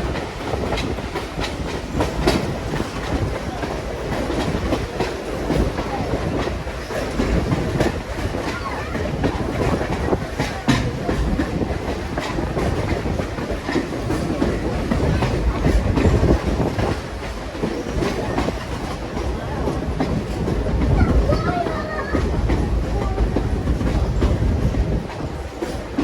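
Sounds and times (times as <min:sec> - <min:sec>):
railroad car rumbling on track: 0:00.0 - 0:26.0
wheels clicking over rail joints: 0:00.0 - 0:26.0.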